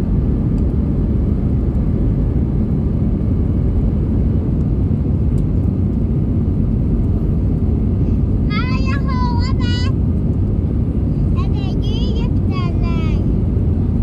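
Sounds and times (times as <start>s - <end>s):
airliner rumble: 0.0s - 14.0s.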